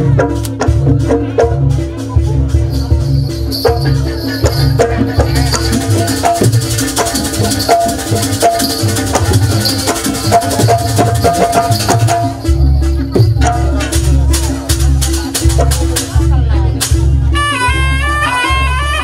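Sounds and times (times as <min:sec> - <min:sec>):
drums and pitched percussion: 0:00.0 - 0:19.0.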